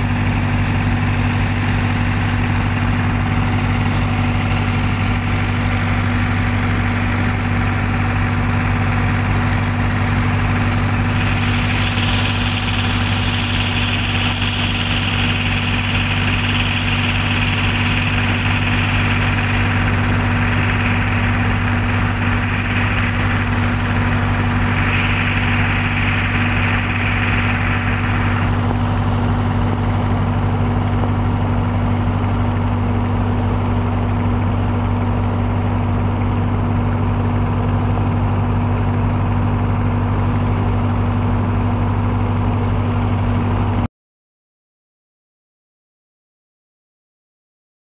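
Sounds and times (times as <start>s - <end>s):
heavy machinery engine running: 0.0s - 43.9s.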